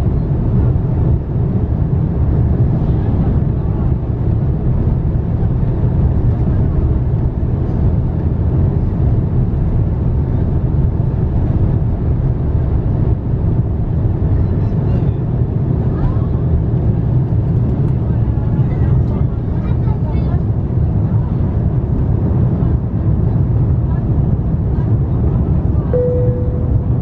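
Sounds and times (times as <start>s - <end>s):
jet engines at takeoff thrust: 0.0s - 26.4s
wheels rumbling on runway: 0.0s - 27.0s.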